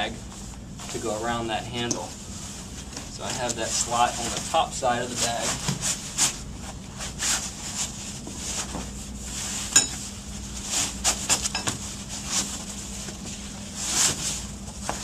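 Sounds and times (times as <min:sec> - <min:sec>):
steady low hum: 0:00.0 - 0:15.0
fabric bag rustling and swishing: 0:02.2 - 0:15.0.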